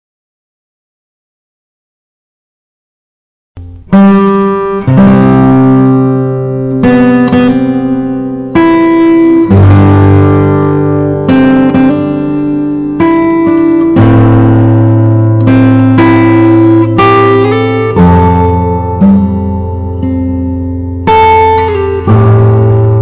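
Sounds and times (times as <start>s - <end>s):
guitar playing slow chords: 3.6s - 23.0s.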